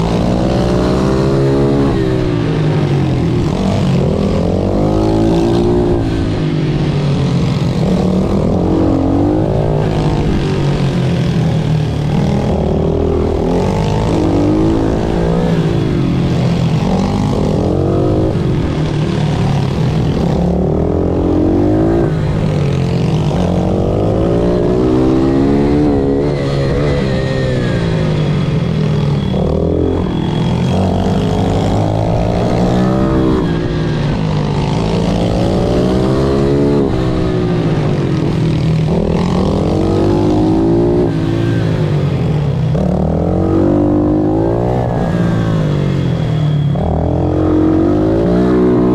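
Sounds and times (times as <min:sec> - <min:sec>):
motorbike engine revving: 0:00.0 - 0:48.9.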